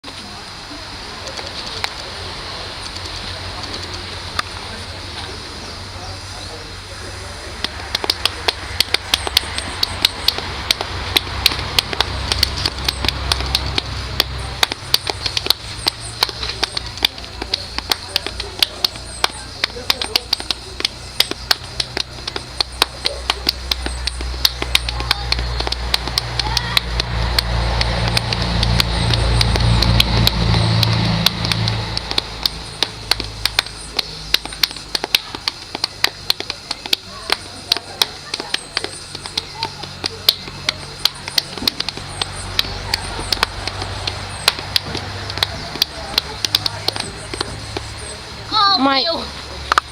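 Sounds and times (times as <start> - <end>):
low rumble: 0.0 - 48.5
low steady hum: 0.0 - 49.9
sharp taps: 7.6 - 49.9.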